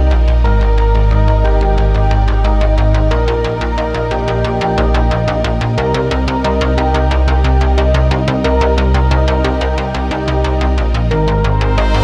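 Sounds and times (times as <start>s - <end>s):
electronic music with fast beat: 0.0s - 12.0s.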